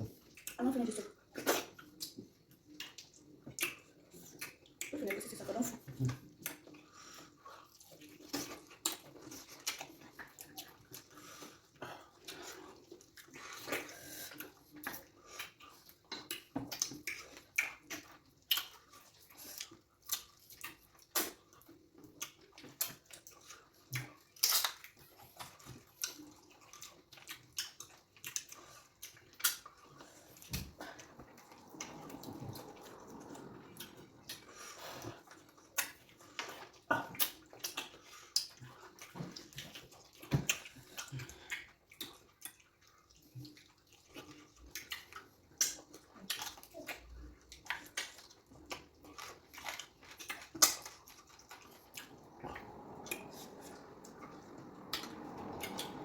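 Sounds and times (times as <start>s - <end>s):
wet chewing and lip smacks: 0.0s - 56.0s.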